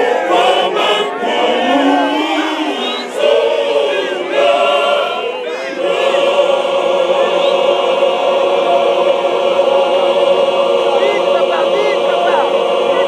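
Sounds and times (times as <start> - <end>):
male choir singing in harmony: 0.0 - 13.0.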